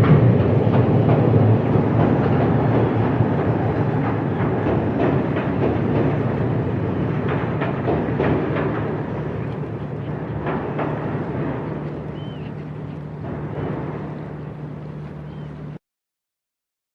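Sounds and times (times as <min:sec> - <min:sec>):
train rumbling on rails: 0:00.0 - 0:15.8.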